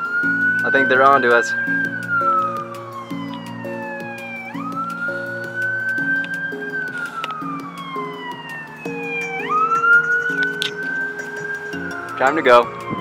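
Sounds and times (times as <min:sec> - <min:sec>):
background music: 0:00.0 - 0:13.0
police siren wailing: 0:00.0 - 0:13.0.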